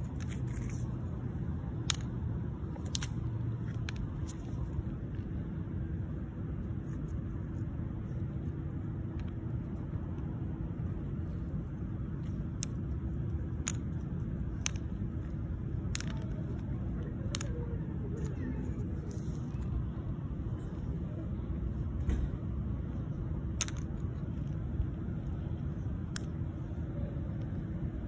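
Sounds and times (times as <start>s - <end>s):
faint steady hum: 0.0s - 28.0s
steady low rumble: 0.0s - 28.0s.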